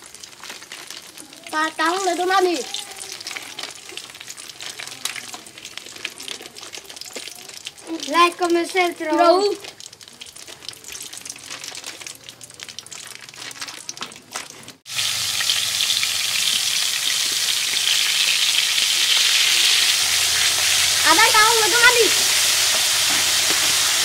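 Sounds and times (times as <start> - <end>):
chicken sizzling in a pot: 0.0 - 24.0.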